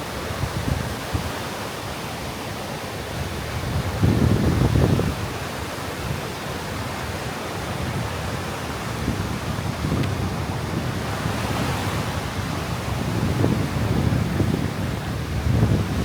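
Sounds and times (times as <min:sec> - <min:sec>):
surf washing onto beach: 0:00.0 - 0:16.0
wind rumble on microphone: 0:03.1 - 0:16.0.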